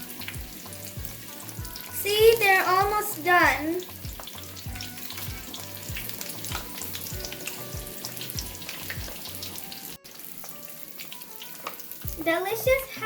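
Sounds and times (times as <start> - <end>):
background music with beat: 0.0 - 13.0
food deep-frying in oil: 0.0 - 13.0.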